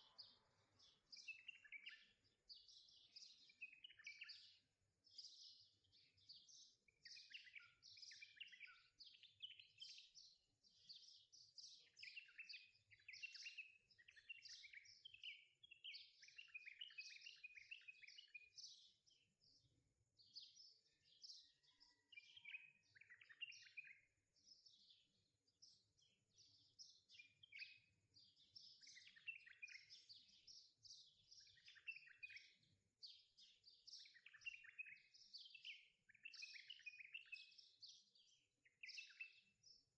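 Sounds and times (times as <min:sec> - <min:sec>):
faint birdsong chirps: 0:00.0 - 0:39.9.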